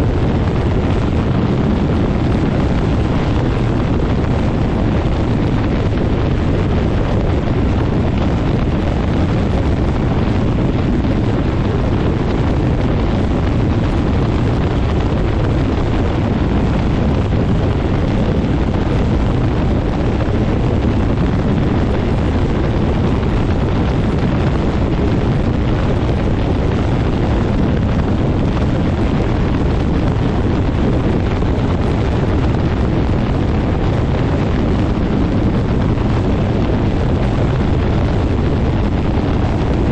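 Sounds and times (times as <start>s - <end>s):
ultralight engine and propeller: 0.0s - 39.9s
wind buffeting microphone: 0.0s - 39.9s.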